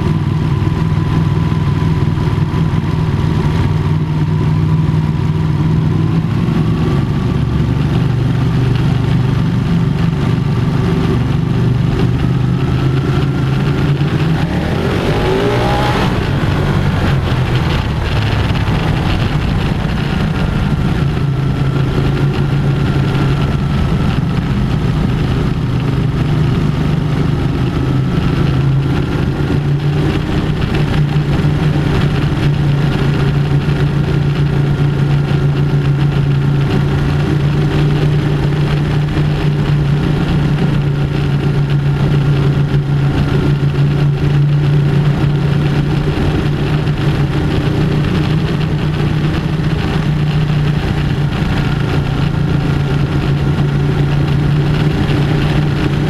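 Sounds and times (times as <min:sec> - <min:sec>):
motorcycle engine cruising: 0:00.0 - 0:56.0
road noise: 0:00.0 - 0:56.0
wind: 0:00.0 - 0:56.0.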